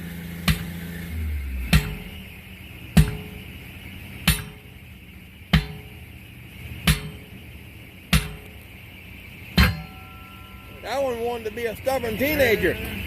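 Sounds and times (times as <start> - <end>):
hammer striking tire with metallic ring: 0.0 - 11.6.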